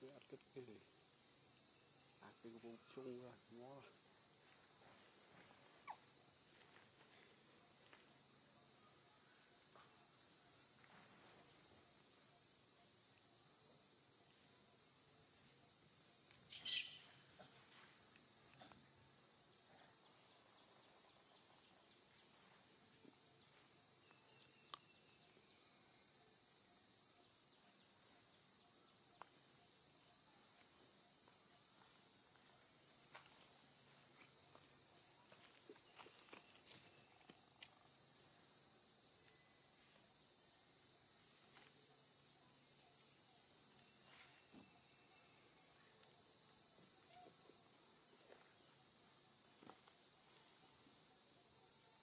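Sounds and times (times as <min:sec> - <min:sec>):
insect chorus drone: 0:00.0 - 0:52.0.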